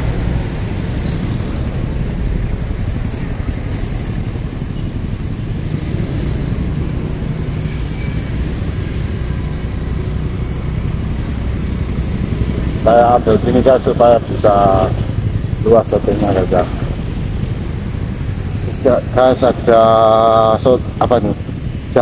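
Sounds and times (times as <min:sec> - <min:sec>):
car and motorcycle engines: 0:00.0 - 0:22.0
constant low vehicle hum: 0:00.0 - 0:22.0.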